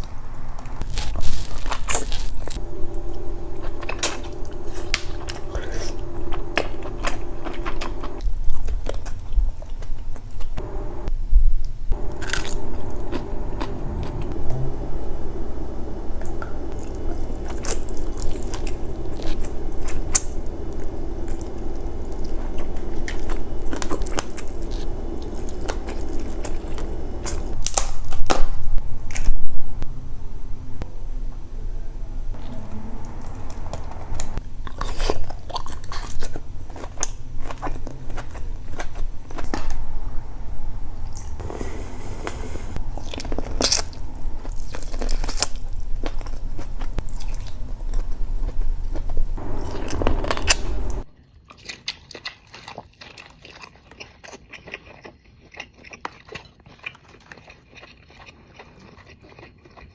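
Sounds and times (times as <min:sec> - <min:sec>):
low hum: 0:00.0 - 0:08.6, 0:10.4 - 0:51.1
wet chewing and crunching: 0:00.0 - 0:10.7, 0:11.9 - 0:28.5, 0:32.3 - 0:39.8, 0:42.3 - 0:59.9.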